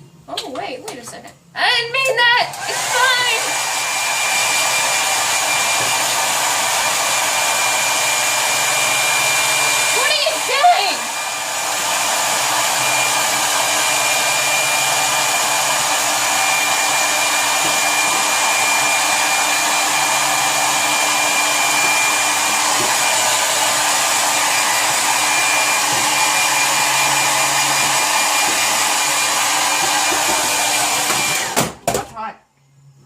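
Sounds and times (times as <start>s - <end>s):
hair dryer blowing: 2.2s - 31.7s.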